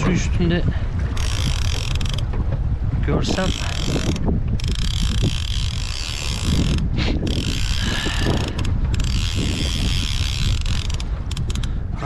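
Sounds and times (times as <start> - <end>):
wind rumble on microphone: 0.0 - 12.0
fishing reel whirring and clicking: 1.1 - 2.4, 3.2 - 11.8.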